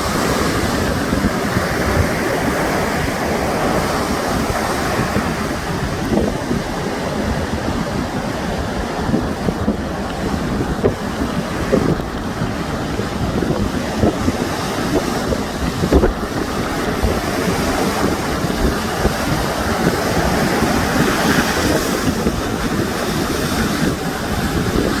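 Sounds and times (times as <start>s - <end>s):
sea waves washing on shore: 0.0s - 25.0s
wind buffeting microphone: 0.0s - 25.0s.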